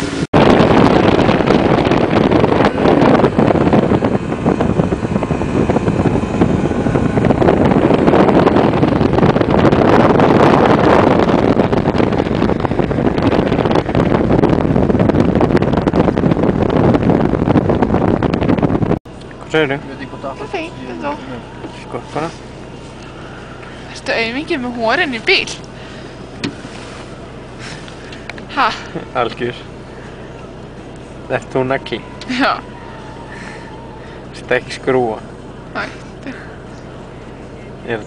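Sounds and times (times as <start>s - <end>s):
snowmobile driving: 0.0s - 38.0s
vehicle moving across snow: 0.0s - 38.0s
wind buffeting microphone: 0.0s - 38.0s.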